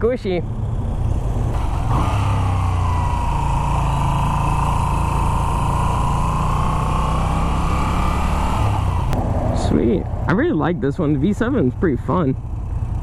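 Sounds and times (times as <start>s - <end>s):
motorcycle engine running: 0.0s - 13.0s
steady whine: 1.0s - 12.6s.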